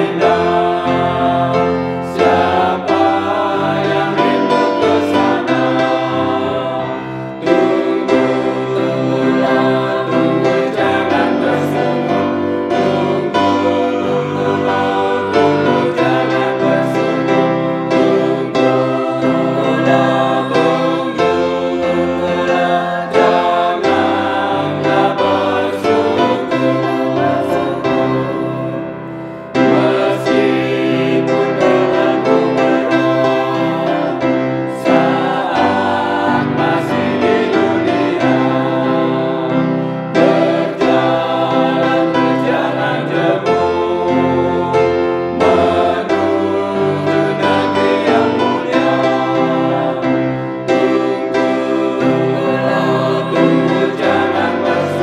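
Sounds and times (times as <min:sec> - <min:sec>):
grand piano: 0:00.0 - 0:55.0
mixed choir singing a hymn: 0:00.0 - 0:55.0.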